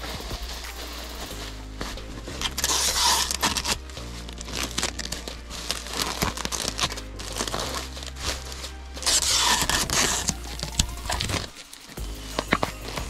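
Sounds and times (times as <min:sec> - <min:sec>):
bubble wrap crinkling: 0:00.0 - 0:13.0
packing tape pulled and torn: 0:00.0 - 0:13.0.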